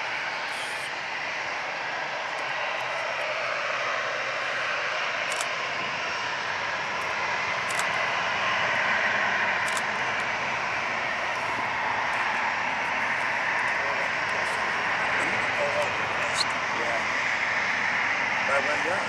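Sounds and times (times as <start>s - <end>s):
jet engines taxiing: 0.0s - 19.0s.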